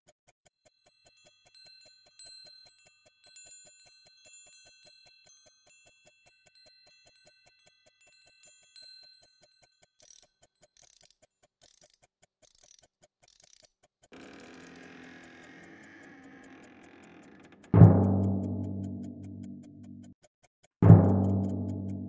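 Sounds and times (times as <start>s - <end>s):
rapid even ticking: 0.0s - 22.0s.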